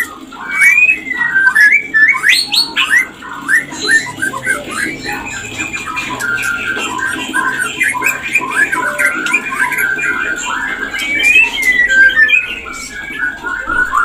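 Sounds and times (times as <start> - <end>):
bird singing whistles and chatter: 0.0 - 14.0.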